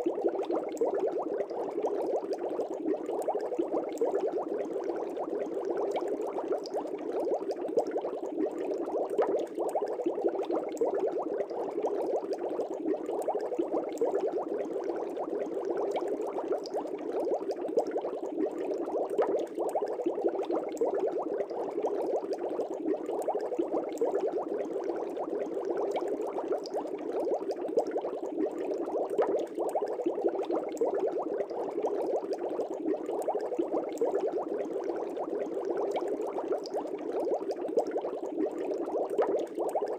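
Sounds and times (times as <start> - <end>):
aquarium air bubbling: 0.0 - 39.9.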